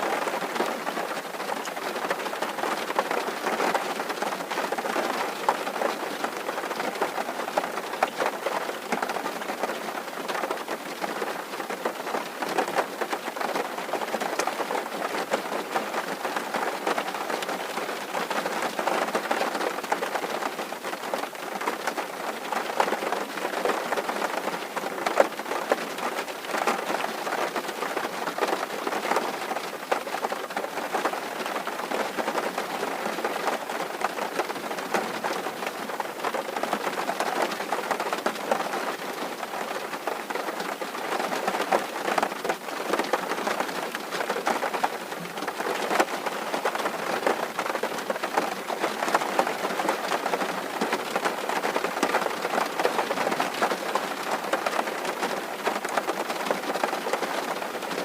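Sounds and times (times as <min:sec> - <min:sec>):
rain drumming on a tin roof: 0:00.0 - 0:58.0.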